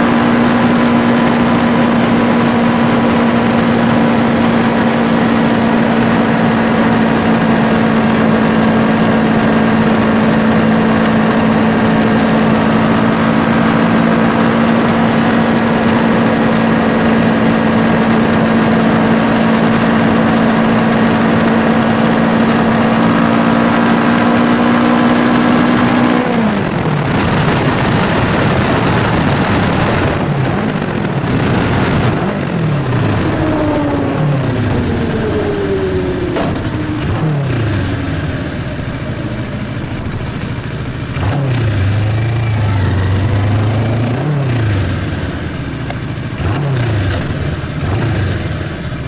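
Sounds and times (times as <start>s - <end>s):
wind on microphone: 0.0s - 45.2s
motorcycle engine running: 0.0s - 49.0s.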